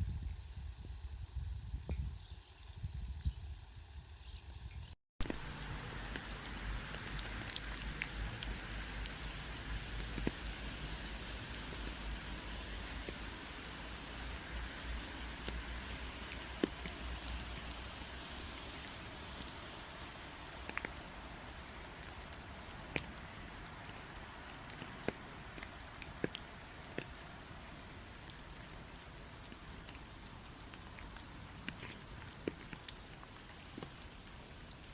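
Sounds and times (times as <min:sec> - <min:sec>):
raindrops tapping close by: 0:05.2 - 0:34.9
steady rain falling: 0:05.2 - 0:34.9.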